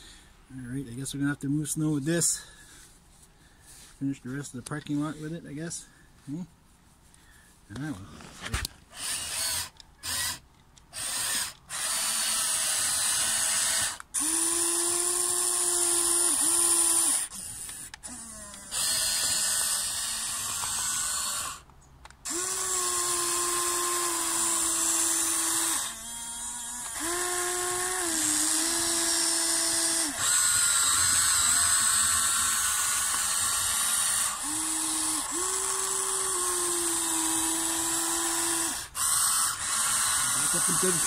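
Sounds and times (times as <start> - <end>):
toy excavator motors whining: 7.7 - 41.0.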